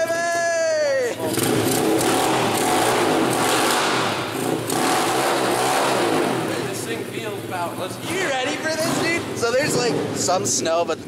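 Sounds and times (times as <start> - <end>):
pit bike engine idling: 1.0 - 11.0.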